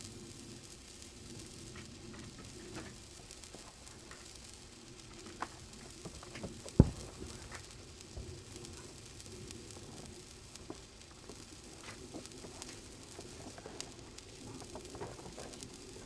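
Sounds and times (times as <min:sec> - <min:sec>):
sparkler fizzing and crackling: 0:00.0 - 0:16.0.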